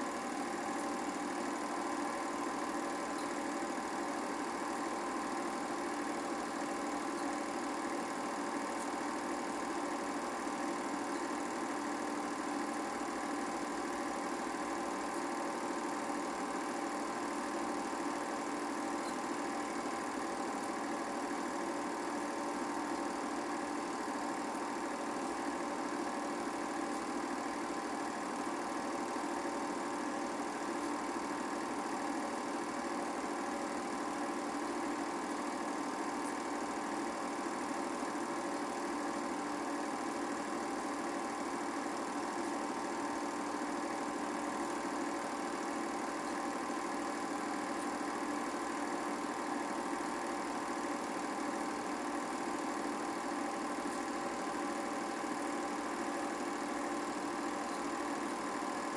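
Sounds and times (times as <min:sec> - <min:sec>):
film projector running: 0:00.0 - 0:58.9.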